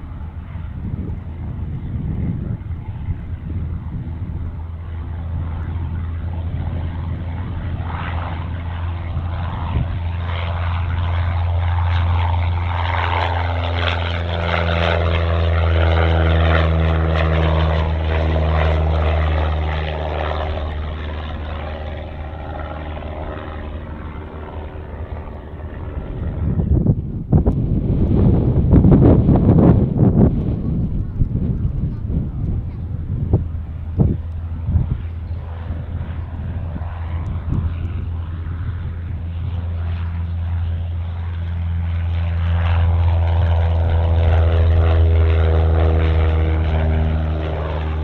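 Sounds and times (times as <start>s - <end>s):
propeller aircraft engine drone: 0.0s - 48.0s.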